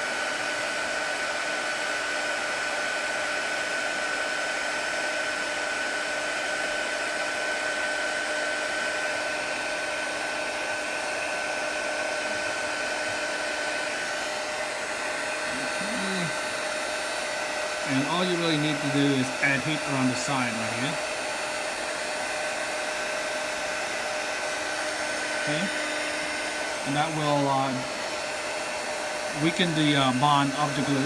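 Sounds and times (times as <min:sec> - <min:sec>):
fan motor whine: 0:00.0 - 0:31.0
heat gun blowing air: 0:00.0 - 0:31.0.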